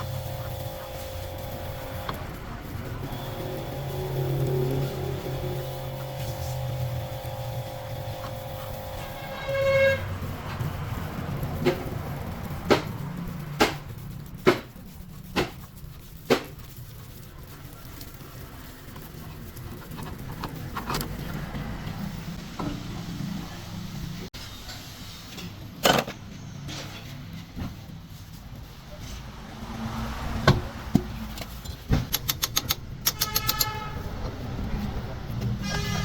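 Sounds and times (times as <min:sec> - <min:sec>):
low mechanical hum: 0:00.0 - 0:29.6.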